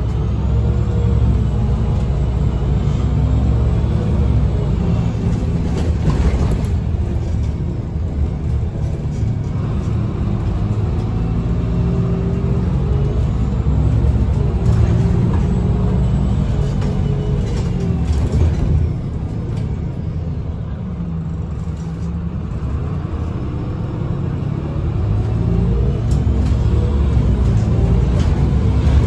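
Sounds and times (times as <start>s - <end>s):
bus diesel engine rumble: 0.0s - 29.0s
road noise: 0.0s - 29.0s.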